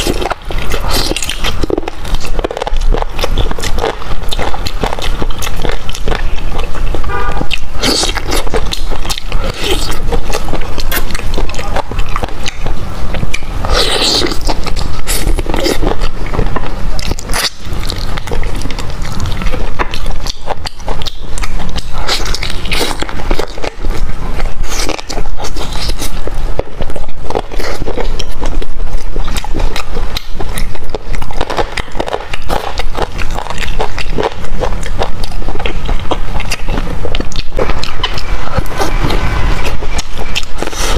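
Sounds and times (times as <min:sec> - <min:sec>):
chewing meat on the bone: 0:00.0 - 0:40.9.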